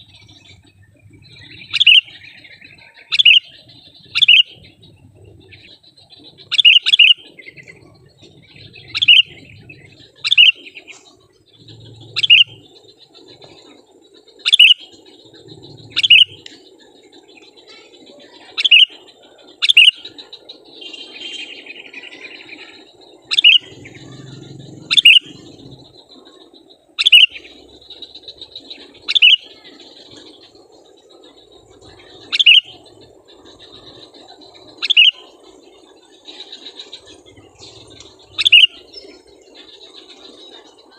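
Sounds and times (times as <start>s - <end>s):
bird calling: 0.0s - 40.9s.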